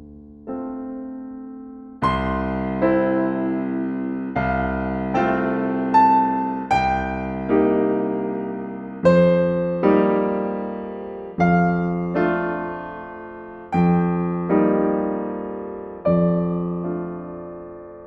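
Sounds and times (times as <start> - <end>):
slow solo piano music: 0.0 - 18.0.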